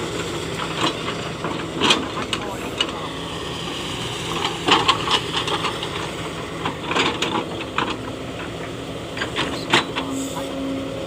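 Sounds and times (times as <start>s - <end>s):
heavy equipment engine idling: 0.0s - 11.0s.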